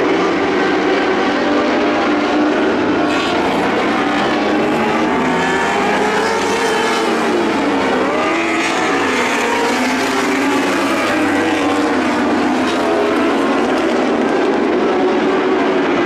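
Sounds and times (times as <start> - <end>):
sprint car engines racing: 0.0 - 16.0.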